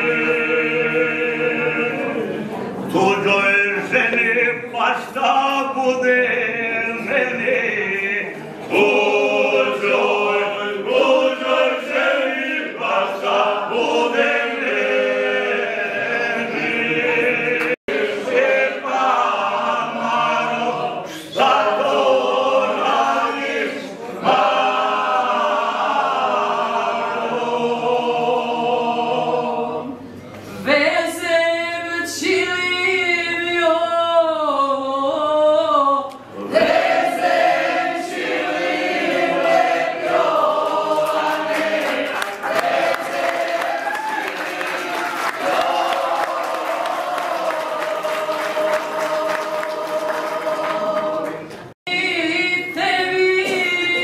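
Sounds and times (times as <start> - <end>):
men and women singing unaccompanied: 0.0 - 54.0.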